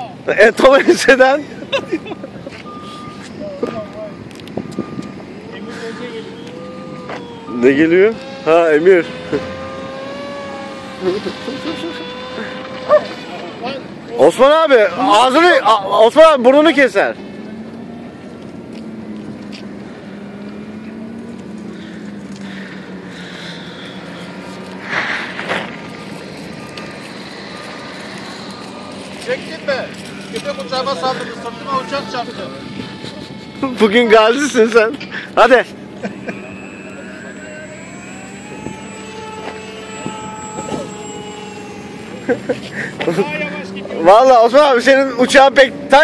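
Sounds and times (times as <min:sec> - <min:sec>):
model airplane propeller hum: 0:00.0 - 0:15.4, 0:16.8 - 0:46.0.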